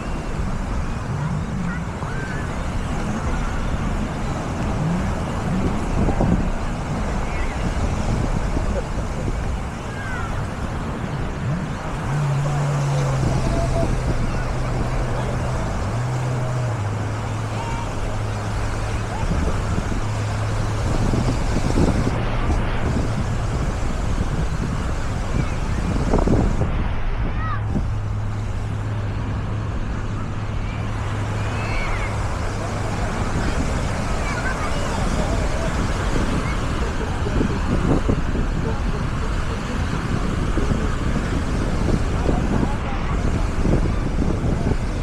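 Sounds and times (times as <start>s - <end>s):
distant voices: 0.0s - 45.0s
low motor drone: 0.0s - 45.0s
surf: 0.0s - 45.0s
wind noise: 0.0s - 45.0s.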